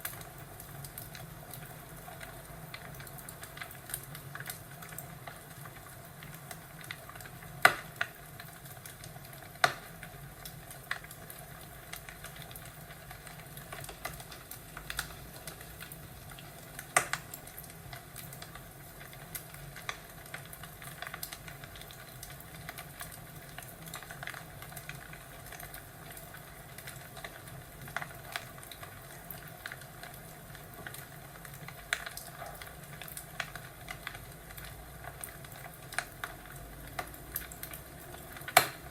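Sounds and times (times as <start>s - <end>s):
fireplace hissing: 0.0s - 38.9s
fire pops and snaps: 2.2s - 26.2s, 26.8s - 38.9s.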